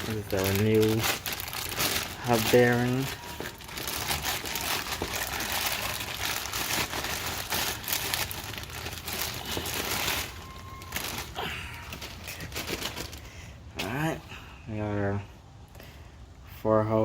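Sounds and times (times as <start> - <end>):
packaging rustling and crinkling: 0.0 - 13.9.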